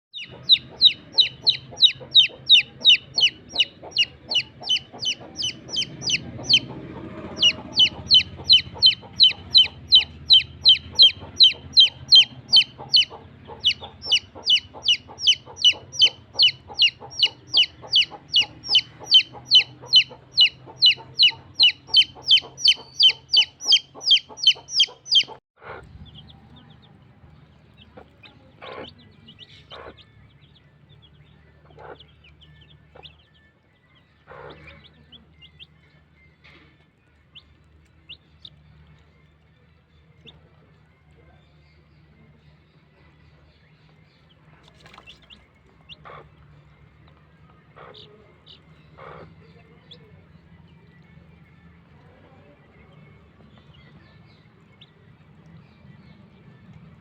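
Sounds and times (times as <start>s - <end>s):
chick peeping: 0.1s - 36.0s, 37.3s - 39.4s, 43.7s - 51.4s, 52.0s - 56.3s.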